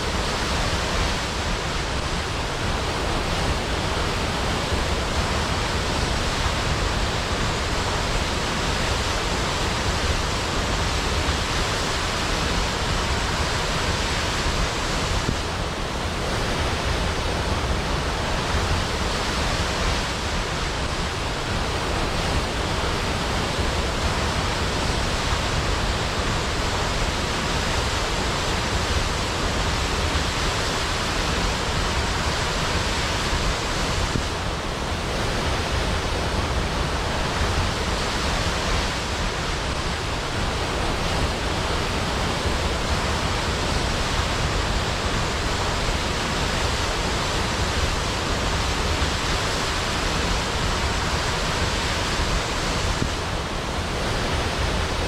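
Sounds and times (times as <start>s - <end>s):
waterfall crashing into pool: 0.0s - 55.0s.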